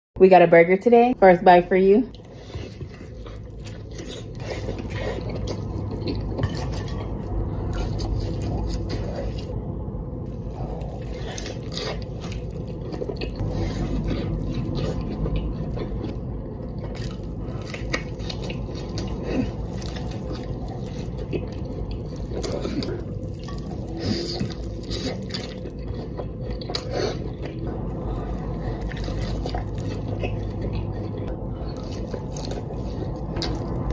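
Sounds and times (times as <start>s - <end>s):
steady low hum: 0.2s - 33.9s
person chewing food: 2.1s - 33.9s.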